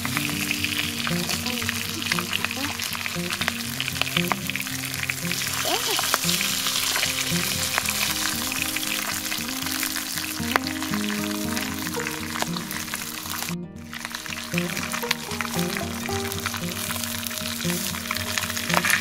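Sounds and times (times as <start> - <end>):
background music: 0.0 - 19.0
fish sizzling in a pan: 0.0 - 19.0.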